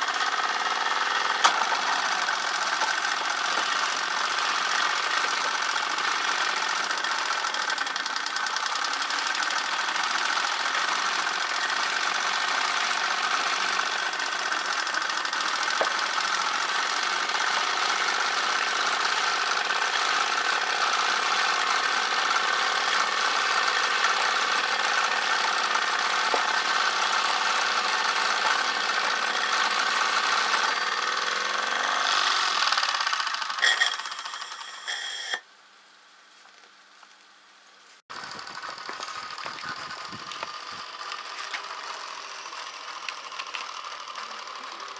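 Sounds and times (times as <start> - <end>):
steam engine mechanical clatter: 0.0 - 35.4, 38.1 - 44.9.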